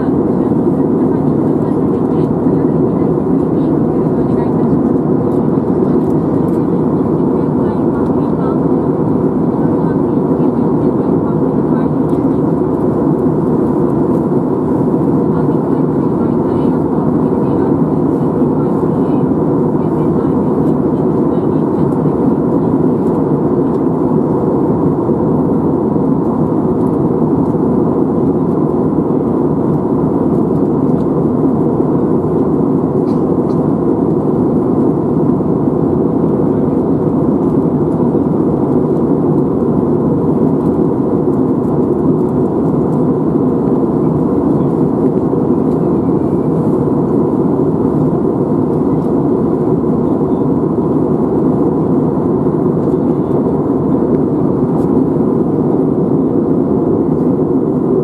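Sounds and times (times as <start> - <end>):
airliner cabin engine rush: 0.0 - 58.0
faint steady whine: 0.0 - 58.0.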